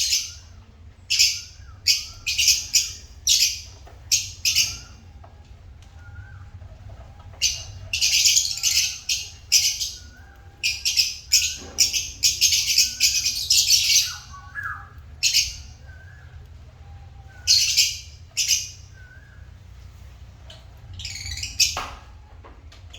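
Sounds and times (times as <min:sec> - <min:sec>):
steady low hum: 0:00.0 - 0:22.8
lovebirds chirping: 0:00.0 - 0:22.9.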